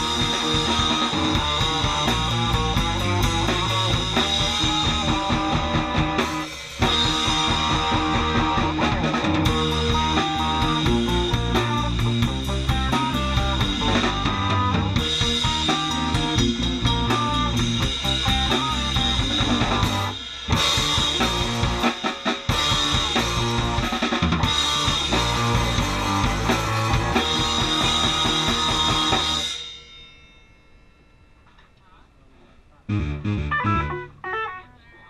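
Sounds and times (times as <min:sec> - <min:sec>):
electric guitar: 0:00.0 - 0:29.5, 0:32.9 - 0:35.0
keyboards: 0:00.0 - 0:29.6, 0:30.6 - 0:35.0
drum kit: 0:00.0 - 0:30.2, 0:32.9 - 0:34.6.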